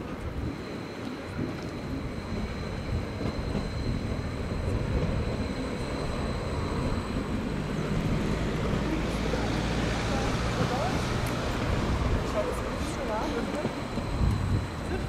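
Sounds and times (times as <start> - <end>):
high whine: 0.0 - 15.0
train rumbling: 0.0 - 15.0.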